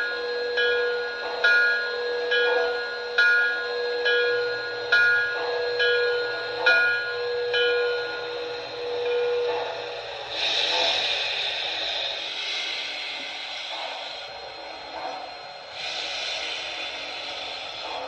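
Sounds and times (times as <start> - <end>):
locomotive bell ringing: 0.0 - 18.0
sound system hum: 0.0 - 18.0.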